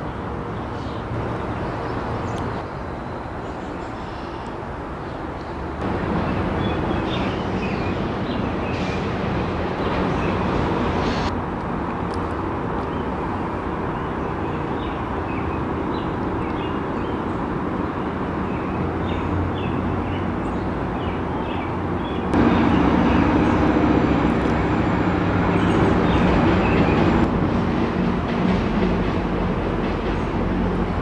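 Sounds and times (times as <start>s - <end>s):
low city rumble: 0.0s - 31.0s.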